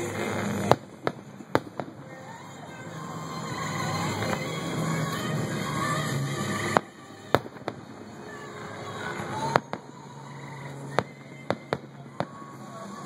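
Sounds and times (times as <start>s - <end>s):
fireworks bursting bangs: 0.0s - 13.0s.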